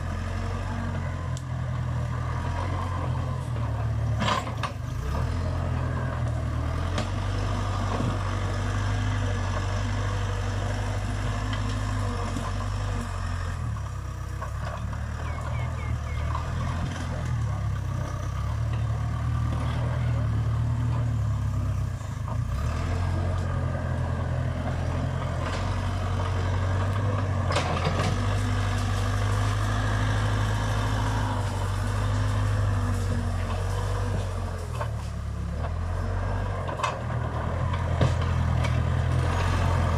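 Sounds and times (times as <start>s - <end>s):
backhoe diesel engine running hard: 0.0s - 39.9s.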